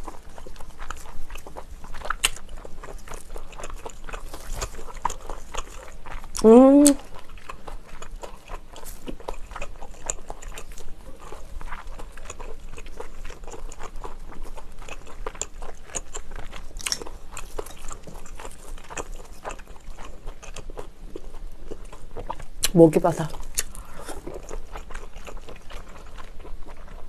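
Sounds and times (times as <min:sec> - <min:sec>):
wet chewing clicks and smacks: 0:00.0 - 0:27.0.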